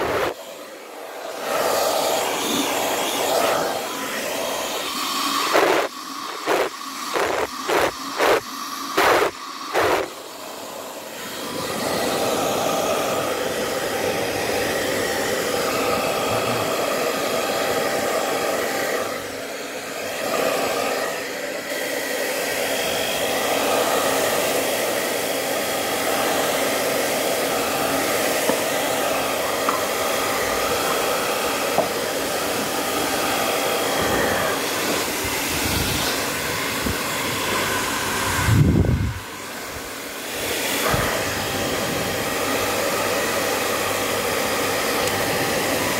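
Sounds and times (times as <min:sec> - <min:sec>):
hair dryer blowing: 0:00.0 - 0:45.9.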